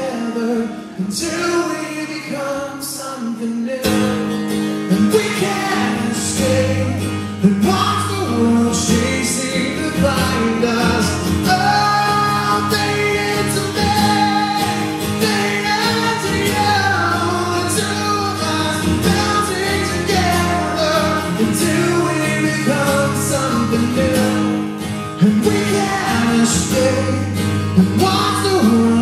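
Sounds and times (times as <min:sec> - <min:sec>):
man singing: 0:00.0 - 0:29.0
rock band playing: 0:03.9 - 0:29.0.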